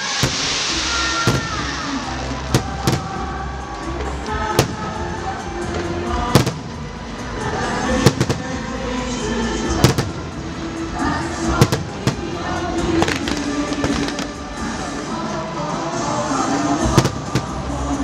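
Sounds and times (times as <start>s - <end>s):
fireworks bursting with bangs: 0.0s - 18.0s
music playing: 0.0s - 18.0s.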